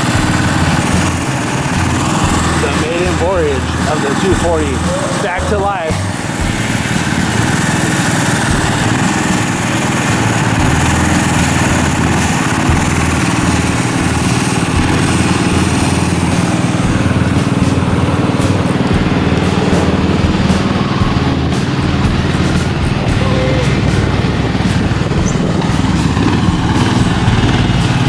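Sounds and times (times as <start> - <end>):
engine running loudly: 0.0 - 28.0.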